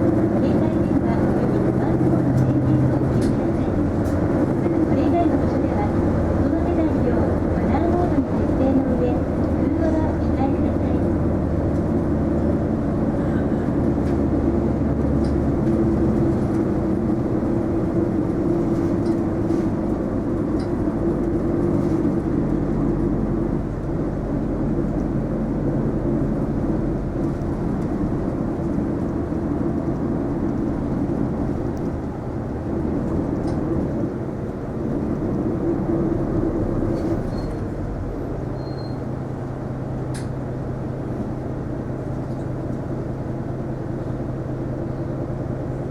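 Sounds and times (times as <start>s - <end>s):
bus diesel engine drone: 0.0s - 45.9s
road noise: 0.0s - 45.9s.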